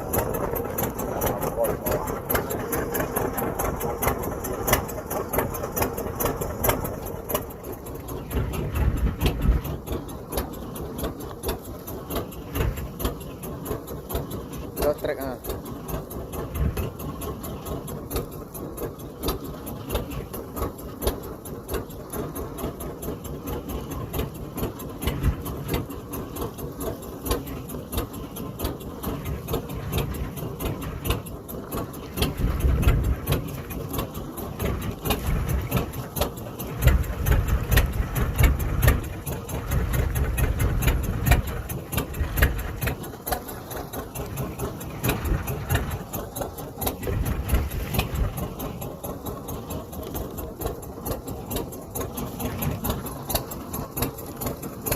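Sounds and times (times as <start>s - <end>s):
deep rumble: 0.0s - 20.7s, 23.4s - 54.9s
boat engine chugging: 0.0s - 54.9s.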